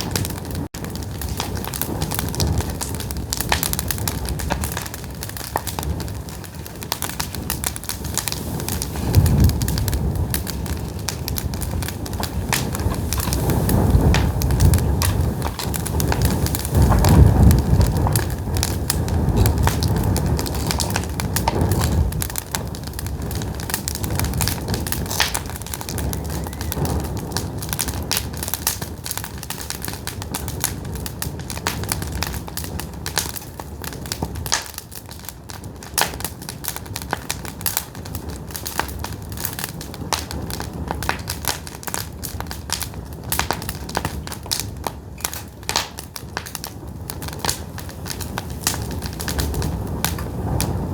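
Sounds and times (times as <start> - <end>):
firewood crackling and popping: 0.0 - 50.9.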